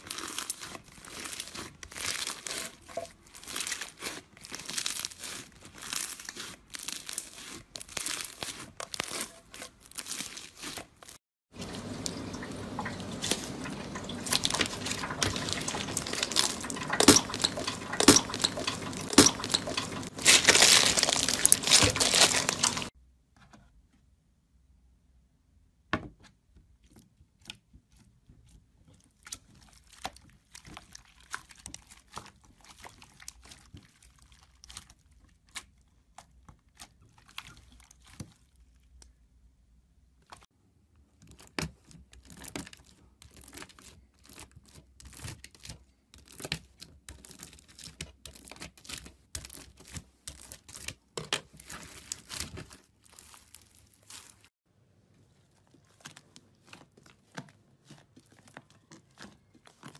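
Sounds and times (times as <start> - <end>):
sticky crackles of beaded slime: 0.0 - 11.2, 14.3 - 23.0, 26.9 - 39.2, 41.2 - 54.5, 55.3 - 59.9.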